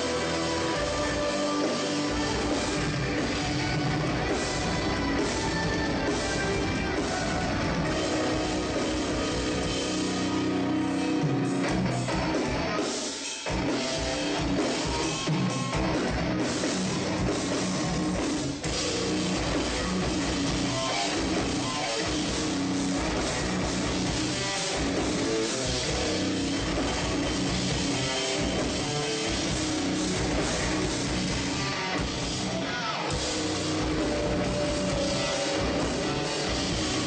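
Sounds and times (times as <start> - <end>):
distorted electric guitars: 0.0 - 37.0
drum kit pounding: 0.0 - 37.0.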